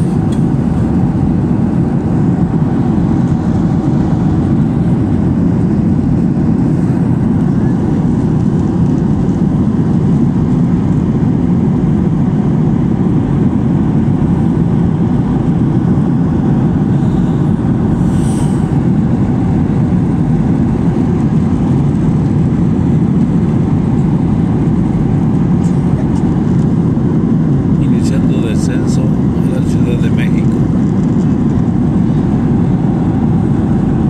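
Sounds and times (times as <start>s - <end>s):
jet airliner cabin drone: 0.0s - 34.0s.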